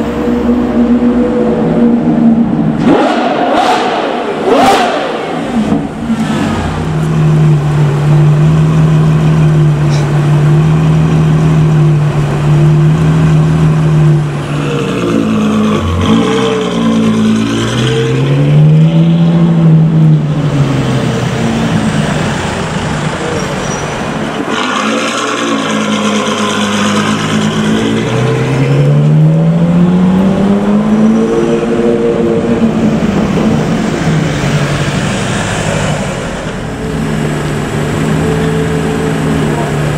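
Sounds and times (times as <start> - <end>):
sports car engine revving: 0.0 - 23.2, 24.4 - 39.9.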